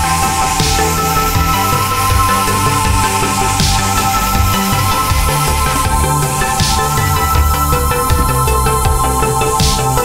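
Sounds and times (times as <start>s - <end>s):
electronic background music: 0.0s - 10.0s.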